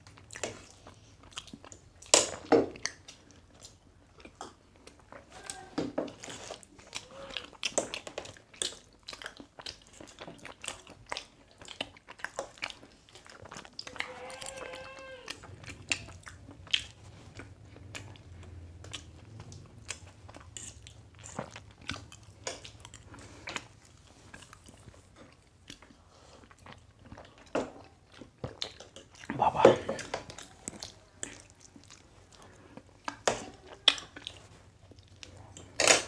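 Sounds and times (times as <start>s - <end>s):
people chewing food: 0.0s - 36.0s.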